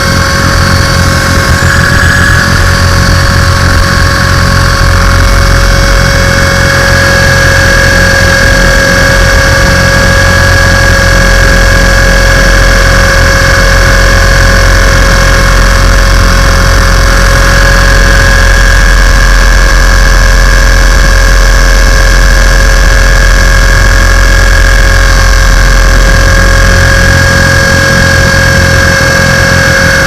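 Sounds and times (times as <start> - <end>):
buzzing rumble: 0.0 - 30.0
rc helicopter high whine: 0.0 - 30.0.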